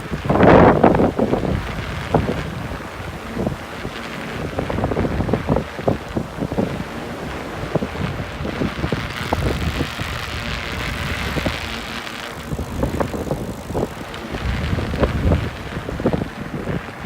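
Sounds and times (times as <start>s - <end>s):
bicycle rumble: 0.0s - 17.0s
wind buffeting microphone: 0.0s - 17.0s.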